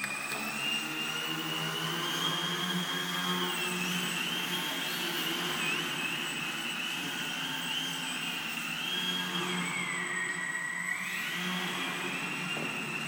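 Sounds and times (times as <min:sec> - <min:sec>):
model plane motor whine: 0:00.0 - 0:13.0.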